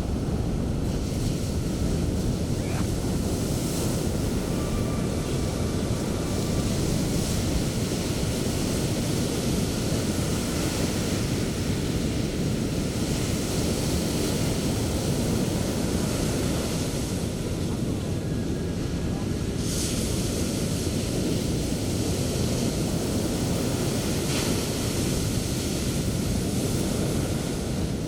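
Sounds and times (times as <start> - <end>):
sea waves washing up beach: 0.0 - 28.0.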